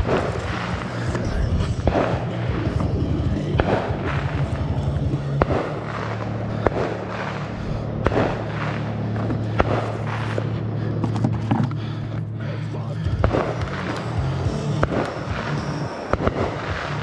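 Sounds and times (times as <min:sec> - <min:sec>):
fireworks bangs: 0:00.0 - 0:12.1, 0:13.0 - 0:17.0
low hum: 0:00.0 - 0:17.0.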